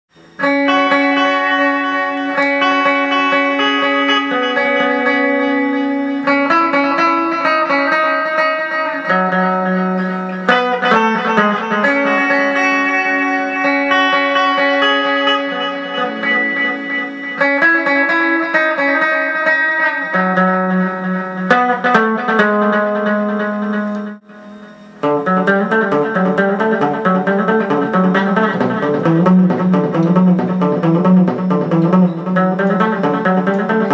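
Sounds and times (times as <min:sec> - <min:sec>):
electric guitar with delay: 0:00.1 - 0:33.9.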